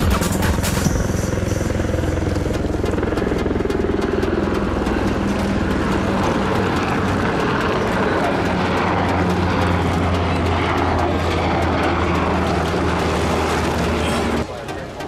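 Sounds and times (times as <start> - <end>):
helicopter engine drone: 0.0 - 15.0
helicopter rotor blades beating: 0.0 - 15.0.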